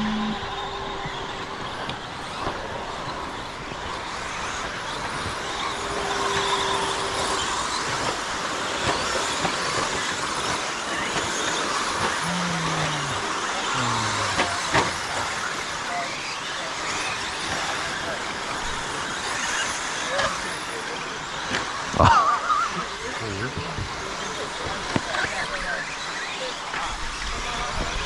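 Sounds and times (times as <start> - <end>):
whirring hiss of motors and tyres: 0.0 - 28.0.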